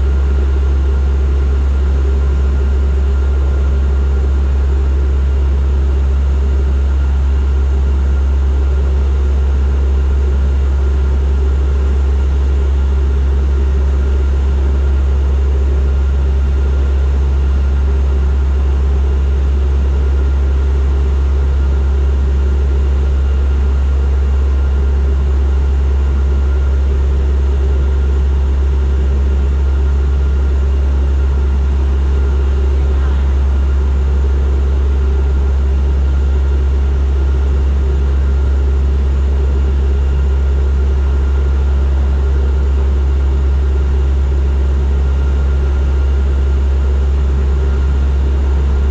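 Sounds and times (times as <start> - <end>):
airliner engine and propeller drone: 0.0 - 48.9.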